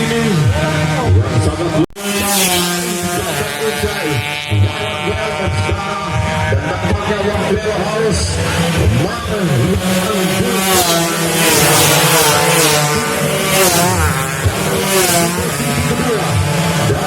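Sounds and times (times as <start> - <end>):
racing motorcycles revving: 0.0 - 17.0.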